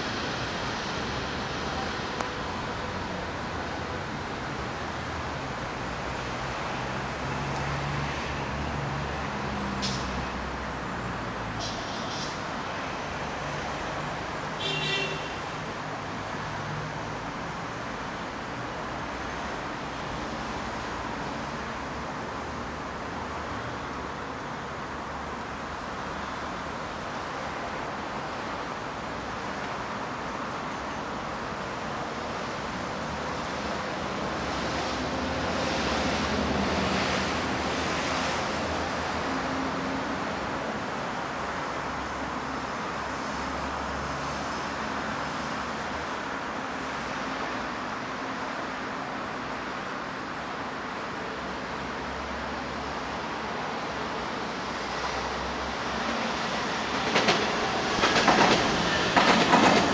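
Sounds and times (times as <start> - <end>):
distant city traffic hum: 0.0 - 59.9.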